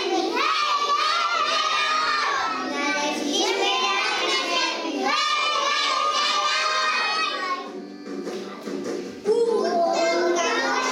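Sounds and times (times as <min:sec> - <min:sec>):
children singing together: 0:00.0 - 0:08.3, 0:09.2 - 0:10.9.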